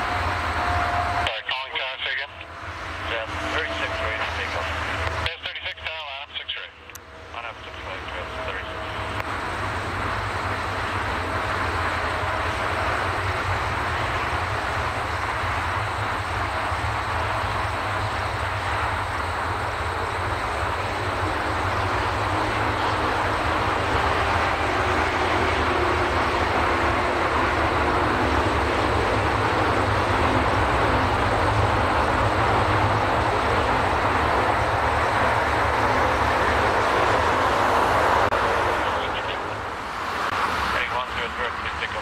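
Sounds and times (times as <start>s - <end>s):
jet engines roaring at takeoff: 0.0s - 42.0s.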